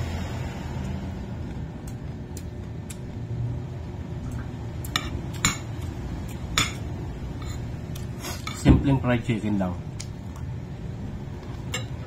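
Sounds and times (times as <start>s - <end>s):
low background rumble: 0.0s - 8.2s, 9.0s - 12.0s.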